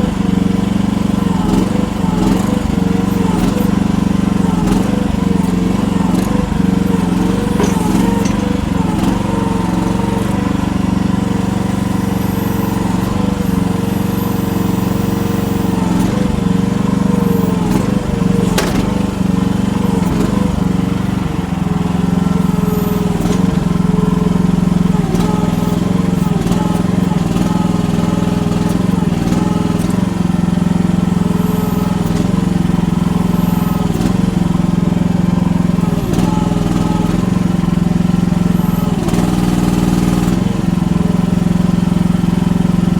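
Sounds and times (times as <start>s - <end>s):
small excavator engine labouring: 0.0s - 42.9s.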